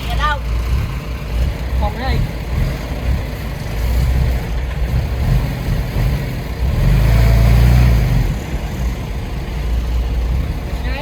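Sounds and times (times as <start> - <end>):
heavy diesel engine droning: 0.0 - 11.0.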